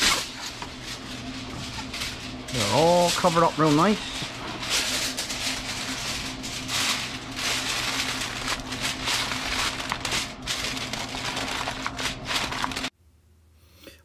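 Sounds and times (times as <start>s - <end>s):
aluminum foil crinkling: 0.0s - 12.9s.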